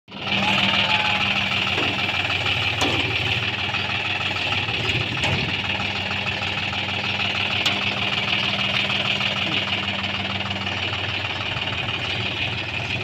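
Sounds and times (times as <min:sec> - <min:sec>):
tractor engine idling: 0:00.1 - 0:13.0.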